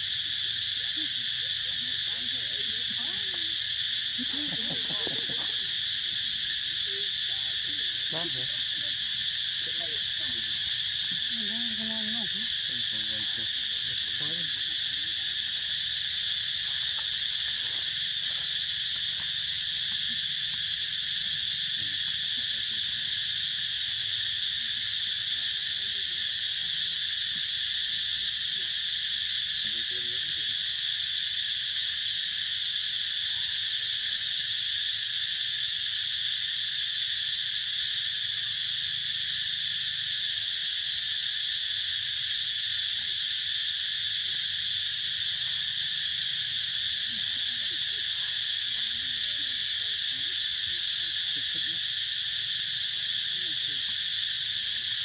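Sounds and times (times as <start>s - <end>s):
insects buzzing: 0.0s - 55.0s.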